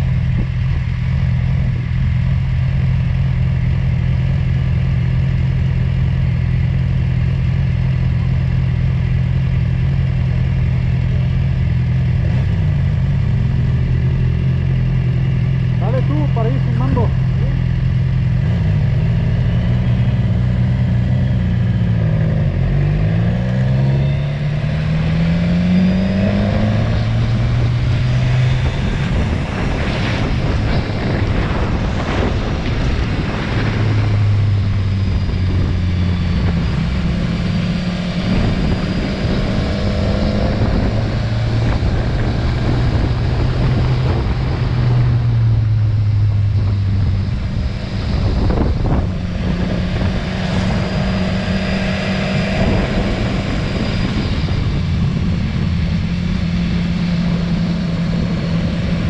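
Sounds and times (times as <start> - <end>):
motorcycle engine accelerating: 0.0 - 59.0
rush of riding wind: 0.0 - 59.0.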